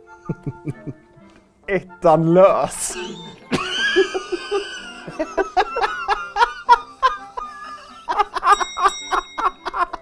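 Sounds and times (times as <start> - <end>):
man laughing hard: 0.3 - 1.0, 2.7 - 10.0.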